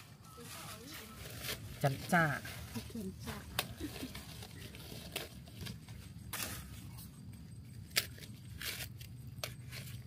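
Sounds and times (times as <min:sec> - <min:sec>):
corn husks rustling and tearing: 0:00.0 - 0:10.0.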